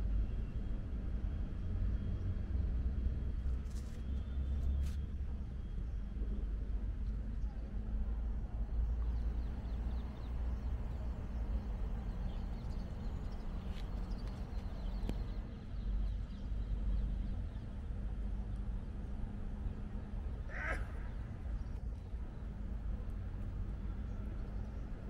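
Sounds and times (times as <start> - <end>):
low rumble of traffic: 0.0 - 25.0.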